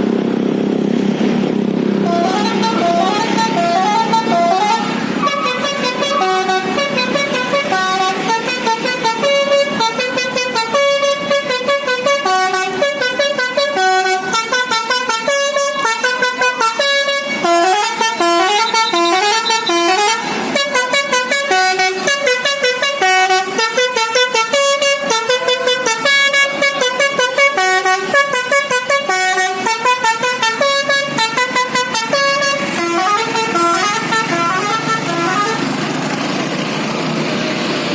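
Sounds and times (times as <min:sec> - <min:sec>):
musical bus horn tune: 0:02.0 - 0:36.2.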